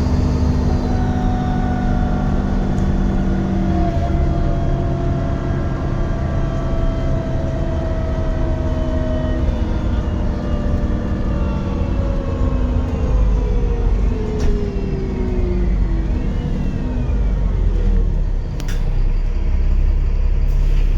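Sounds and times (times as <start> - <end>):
turbo whistle and drivetrain whine: 0.0 - 19.8
bus engine rumbling: 0.0 - 20.9.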